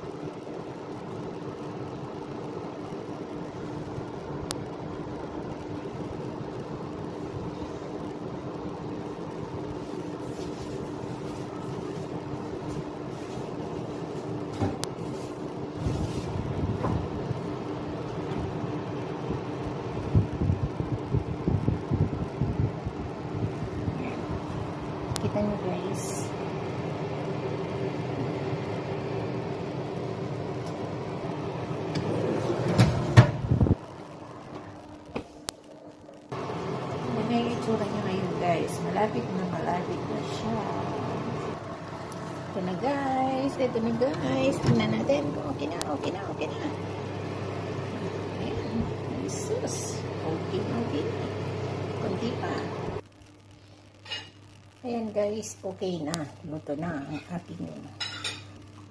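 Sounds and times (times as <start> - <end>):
oven humming: 0.0 - 58.9.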